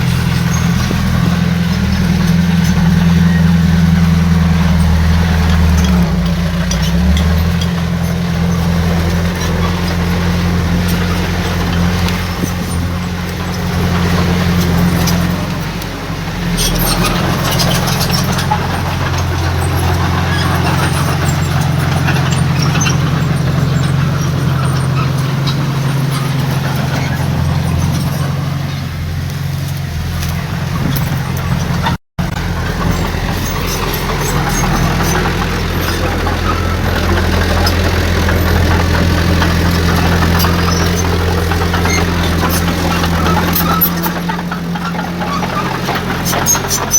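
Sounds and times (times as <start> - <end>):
clanks and rattles: 0.0 - 46.9
heavy diesel engine running: 0.0 - 46.9.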